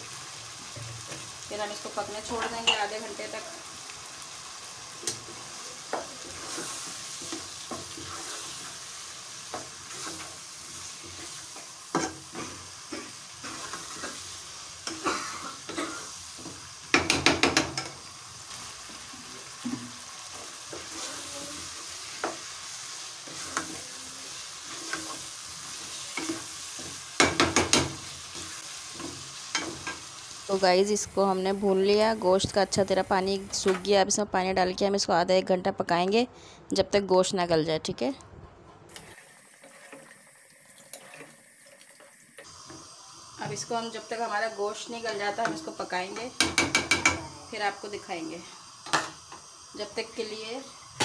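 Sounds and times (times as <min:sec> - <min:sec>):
food sizzling in a pot: 0:00.0 - 0:34.2, 0:38.9 - 0:51.0.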